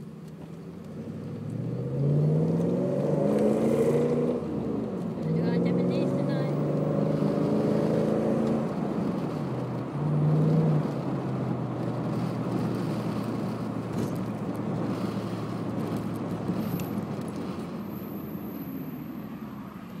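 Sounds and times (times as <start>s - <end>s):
car engine driving: 0.0s - 20.0s.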